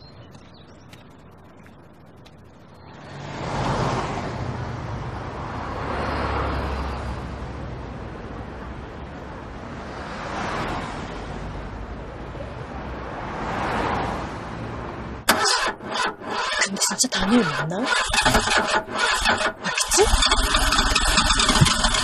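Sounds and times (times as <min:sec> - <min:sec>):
cars passing: 0:02.2 - 0:22.0.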